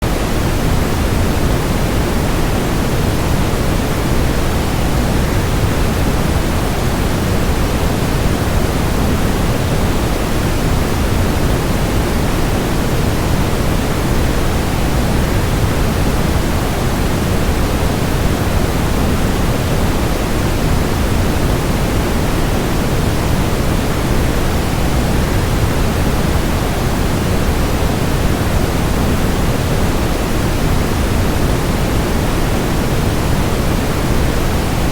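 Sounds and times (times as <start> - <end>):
white noise: 0.0 - 34.9.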